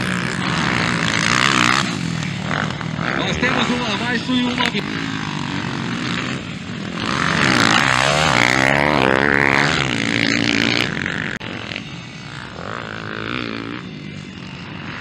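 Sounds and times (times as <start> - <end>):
distant motorcycle engine: 0.0 - 15.0
motocross bike revving past: 0.0 - 15.0.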